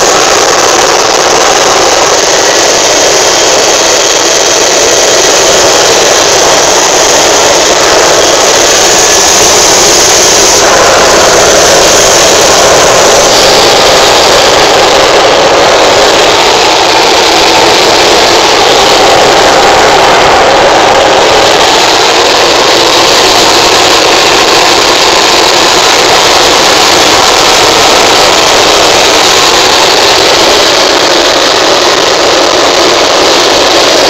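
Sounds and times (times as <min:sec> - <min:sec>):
helicopter cabin rushing noise: 0:00.0 - 0:34.0.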